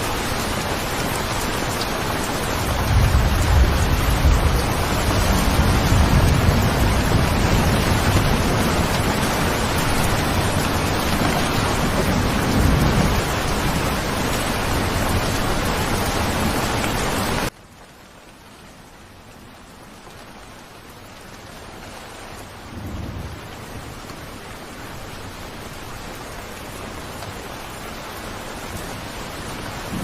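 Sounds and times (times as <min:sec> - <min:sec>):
heavy rain with low rumble: 0:00.0 - 0:30.0.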